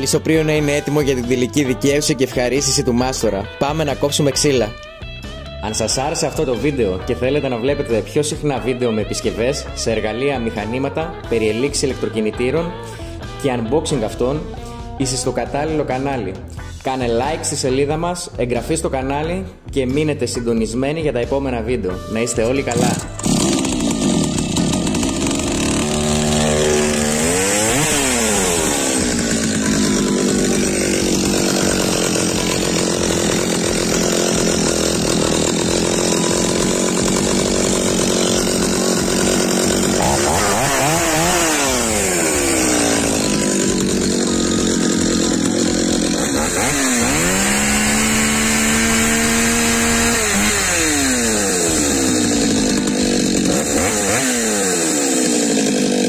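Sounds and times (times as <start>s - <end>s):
chainsaw cutting wood: 0.0s - 16.9s, 22.0s - 56.0s.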